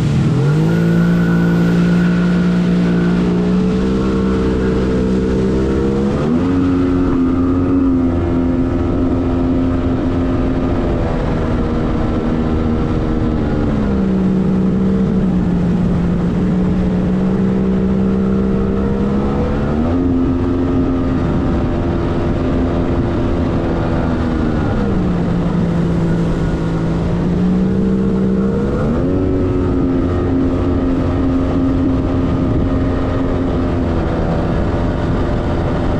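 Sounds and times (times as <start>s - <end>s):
watercraft engine revving: 0.0s - 35.9s.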